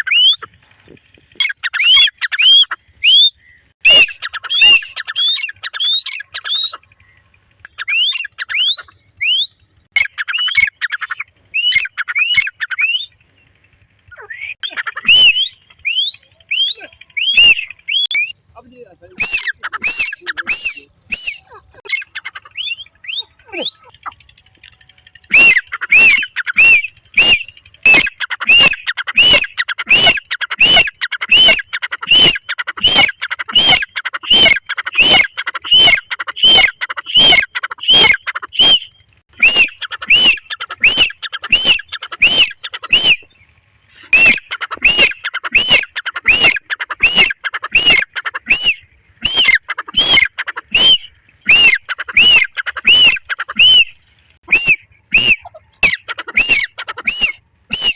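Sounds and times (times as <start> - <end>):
francolin calling: 0.0 - 57.9.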